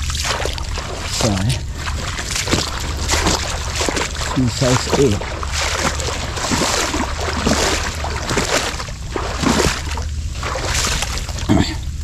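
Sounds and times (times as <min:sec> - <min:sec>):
low rumble: 0:00.0 - 0:12.0
water sloshing and splashing: 0:00.0 - 0:12.0.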